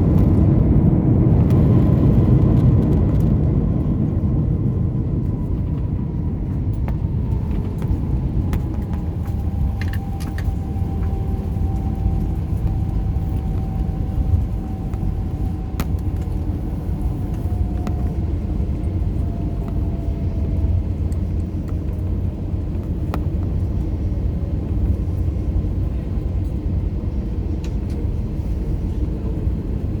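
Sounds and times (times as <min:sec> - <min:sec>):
airliner cabin rumble: 0:00.0 - 0:30.0
jet engine whine falling: 0:00.0 - 0:30.0.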